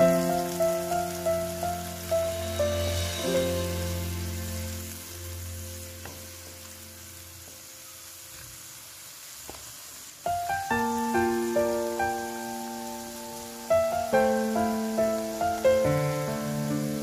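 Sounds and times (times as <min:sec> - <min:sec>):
piano music: 0:00.0 - 0:08.2, 0:10.3 - 0:17.0
spice paste sizzling in oil: 0:00.0 - 0:17.0.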